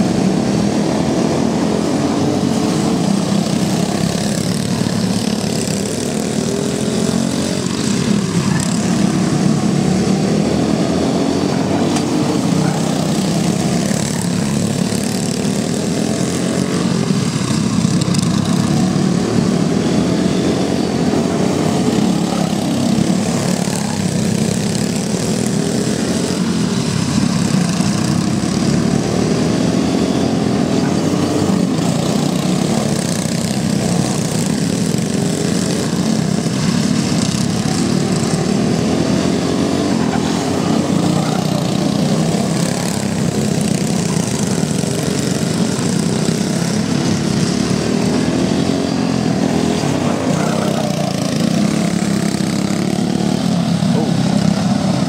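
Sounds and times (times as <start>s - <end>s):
go-kart engines buzzing: 0.0s - 55.0s.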